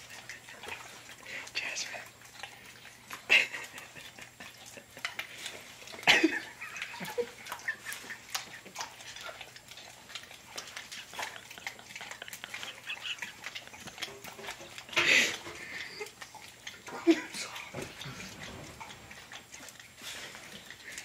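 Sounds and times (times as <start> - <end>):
dog licking and smacking lips: 0.0 - 21.0.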